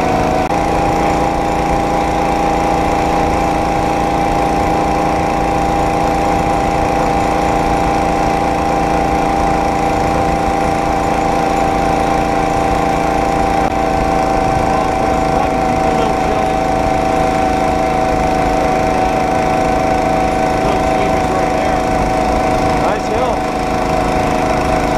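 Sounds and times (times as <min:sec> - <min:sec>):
small engine droning: 0:00.0 - 0:24.9.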